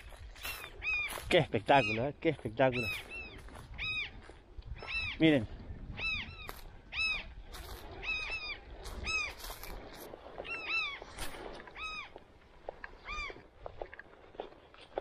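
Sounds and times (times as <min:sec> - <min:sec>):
birds ringing calls: 0:00.0 - 0:12.2, 0:12.9 - 0:13.5.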